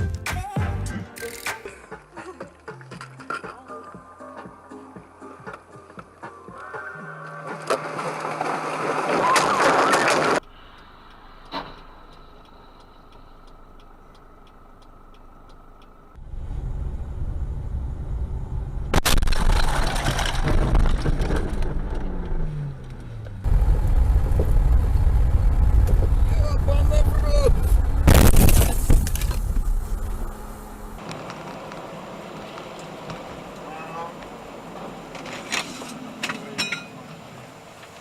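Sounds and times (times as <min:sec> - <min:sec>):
car road and engine noise: 0:02.8 - 0:38.0.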